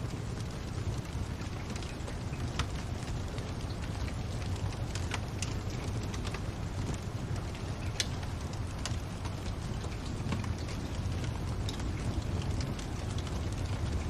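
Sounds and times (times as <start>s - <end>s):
fire popping and snapping: 0.0s - 14.0s
wood fire crackling: 0.0s - 14.0s.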